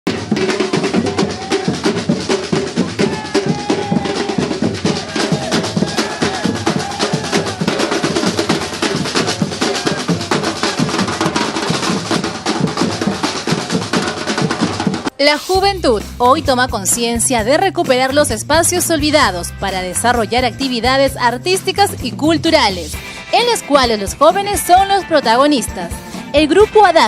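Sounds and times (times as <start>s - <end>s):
rapid drumming: 0.0s - 25.0s.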